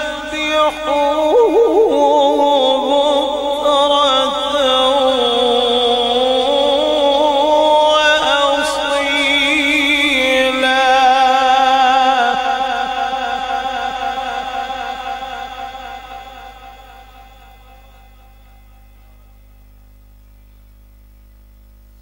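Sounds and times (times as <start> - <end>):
man chanting through microphone: 0.0 - 19.2.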